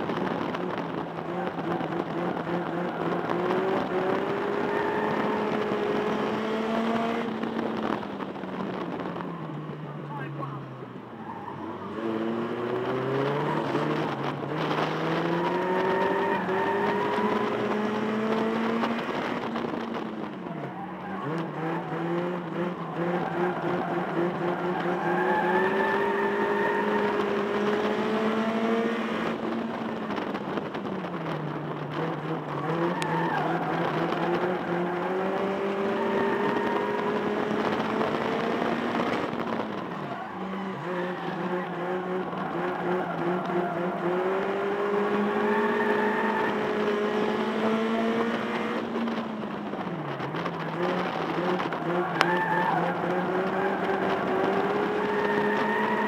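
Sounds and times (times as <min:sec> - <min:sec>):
racing car engine revving: 0:00.1 - 0:09.2, 0:11.8 - 0:56.0.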